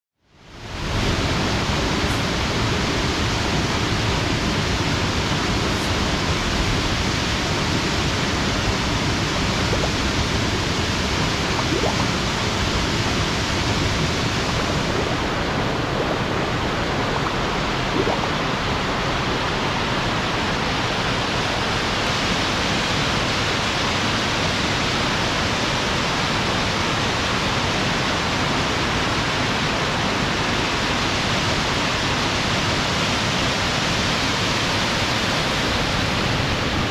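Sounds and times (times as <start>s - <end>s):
waterfall rushing: 0.7s - 36.9s.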